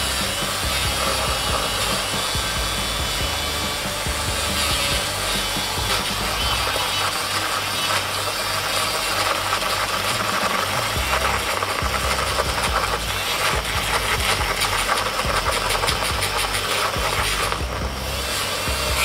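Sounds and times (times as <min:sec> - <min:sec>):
milk frother whirring: 0:00.0 - 0:19.0.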